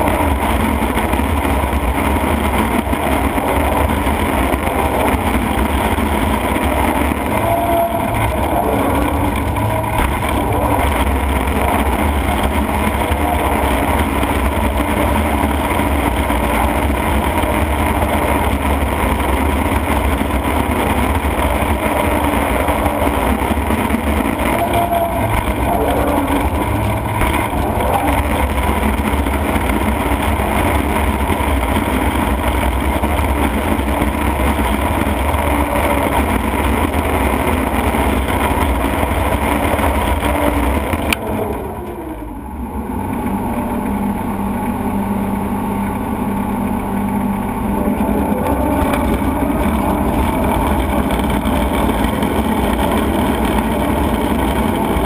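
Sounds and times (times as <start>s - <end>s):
shredder grinding tires: 0.0s - 55.0s.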